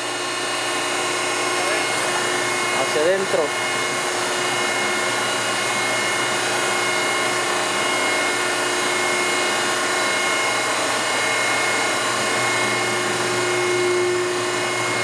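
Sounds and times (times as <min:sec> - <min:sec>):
baler motor hum: 0:00.0 - 0:15.0
hydraulic pump whine: 0:00.0 - 0:15.0.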